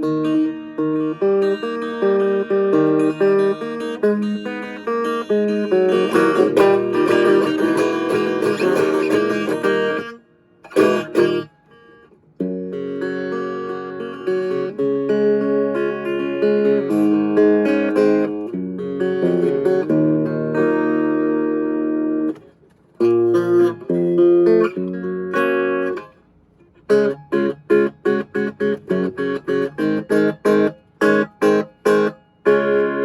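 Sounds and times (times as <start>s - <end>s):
clean electric guitar playing: 0.0s - 33.0s.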